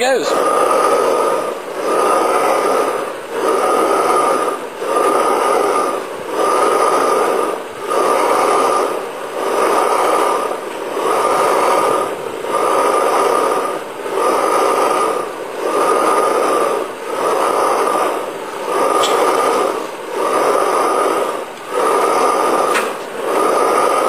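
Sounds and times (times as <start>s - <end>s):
engine turned over by hand whooshing: 0.0s - 24.0s.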